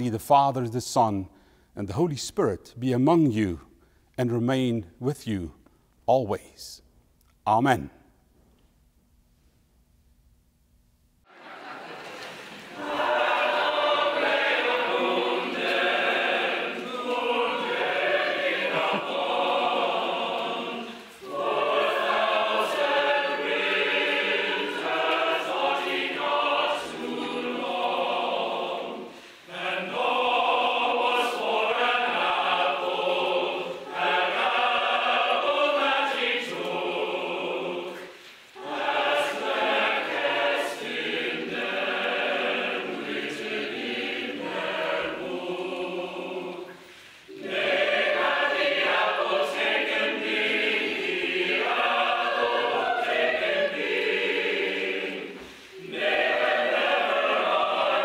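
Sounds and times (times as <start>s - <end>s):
choir singing a carol: 11.2s - 58.0s.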